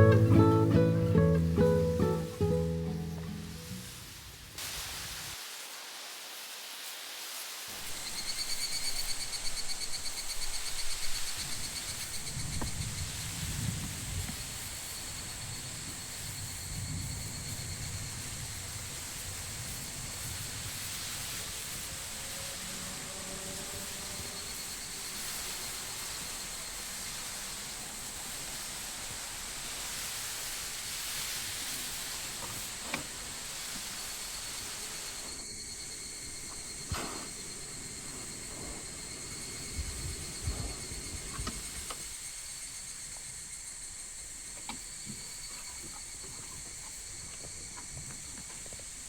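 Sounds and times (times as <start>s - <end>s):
insects droning: 0.0s - 4.5s, 5.4s - 49.0s.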